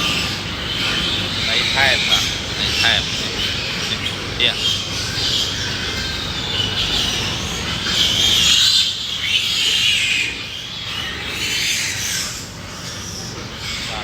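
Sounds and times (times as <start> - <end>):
pigs squealing: 0.0 - 14.0.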